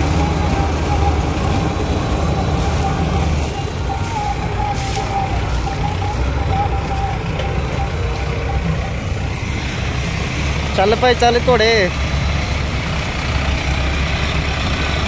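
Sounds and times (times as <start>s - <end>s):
combine harvester engine drone: 0.0s - 15.0s
thin steady whine: 0.0s - 15.0s.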